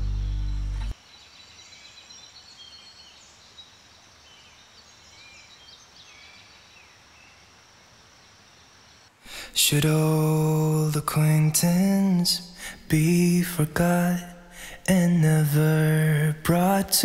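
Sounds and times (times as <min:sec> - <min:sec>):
faint steady background hiss: 0:00.8 - 0:17.0.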